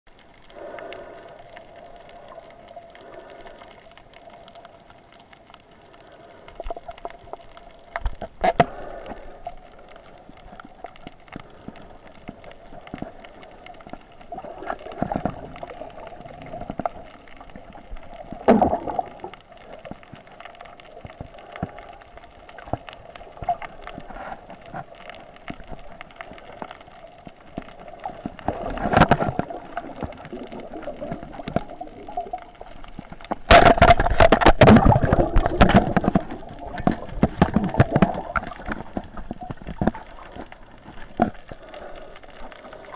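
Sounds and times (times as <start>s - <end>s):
gushes of water: 0.1s - 42.9s
water gurgling and sloshing: 0.1s - 42.9s.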